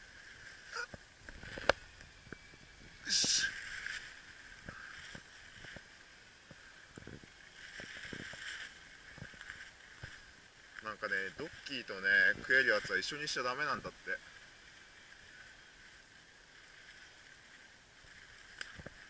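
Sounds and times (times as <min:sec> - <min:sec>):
rustling of dry leaves: 0:00.0 - 0:19.0.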